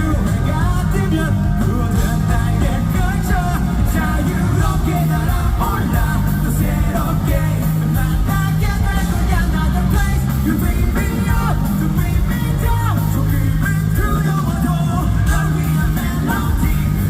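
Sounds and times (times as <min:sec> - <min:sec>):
man singing lead vocal: 0:00.0 - 0:17.0
rock band playing: 0:00.0 - 0:17.0.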